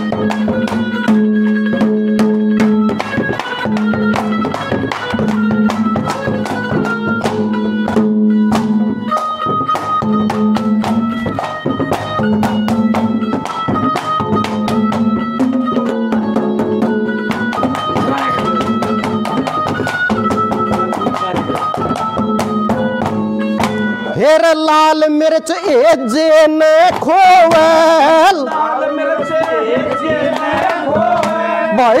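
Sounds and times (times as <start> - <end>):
sustained melody line: 0.0 - 32.0.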